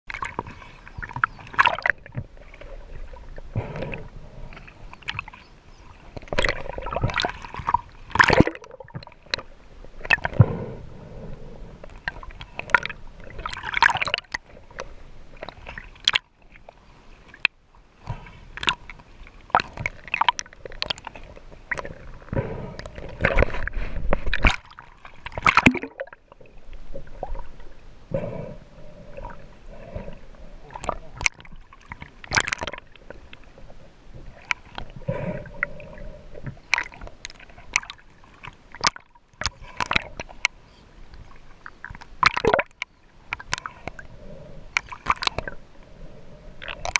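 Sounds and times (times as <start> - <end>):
water sloshing and splashing: 0.1 - 10.6, 11.8 - 28.2, 28.8 - 46.9.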